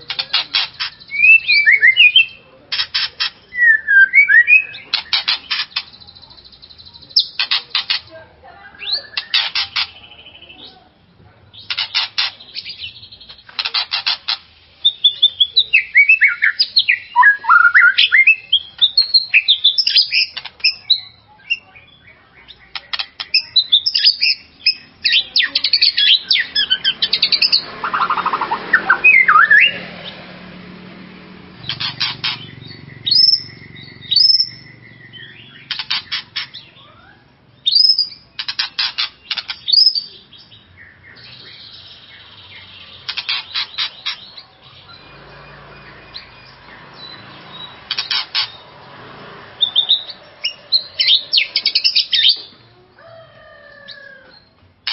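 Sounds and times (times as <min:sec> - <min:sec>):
songbird whistling and chattering: 0:00.0 - 0:10.8, 0:11.5 - 0:30.2, 0:31.6 - 0:48.9, 0:49.5 - 0:52.6.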